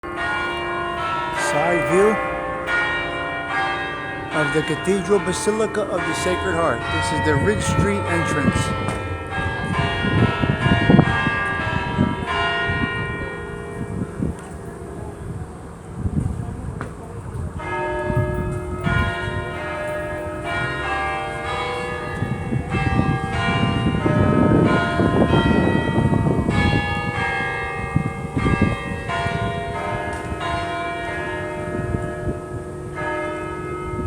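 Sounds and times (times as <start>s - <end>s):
church bells pealing: 0.0s - 34.0s.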